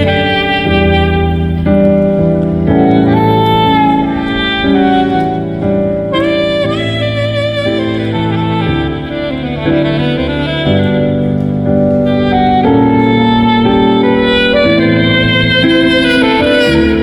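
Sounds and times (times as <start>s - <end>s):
saxophone playing held notes: 0.0s - 17.0s.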